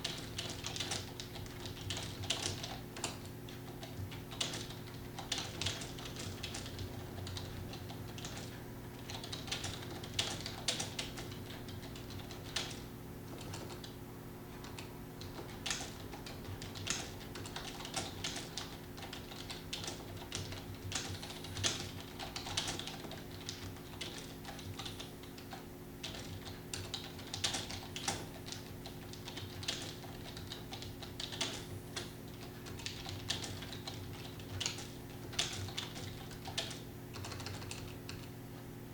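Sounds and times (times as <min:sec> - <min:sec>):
fast typing on keyboard: 0:00.0 - 0:14.0, 0:14.6 - 0:38.4
steady low hum: 0:00.0 - 0:38.9.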